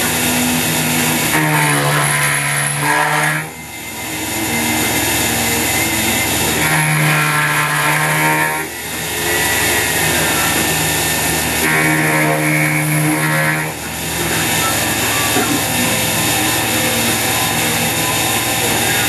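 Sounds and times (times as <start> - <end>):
milling machine whine: 0.0 - 19.0
stronger steady tone: 0.0 - 19.0.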